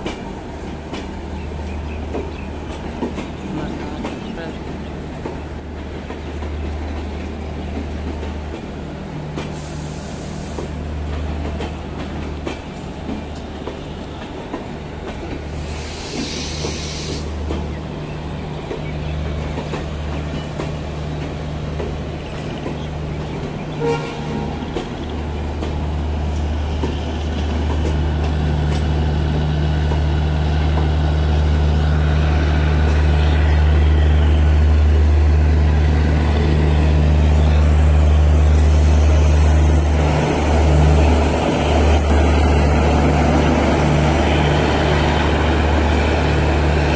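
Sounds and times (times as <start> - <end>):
coaches hissing over rails: 0.0 - 46.9
train rolling past: 0.0 - 46.9.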